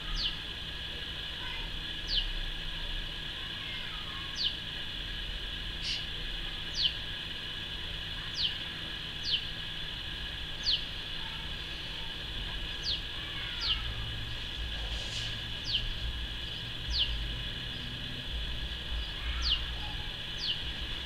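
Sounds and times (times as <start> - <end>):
small bird calling: 0.0 - 0.5, 1.4 - 2.4, 3.4 - 4.7, 5.8 - 7.1, 8.1 - 21.0
steady background hum: 0.0 - 21.0.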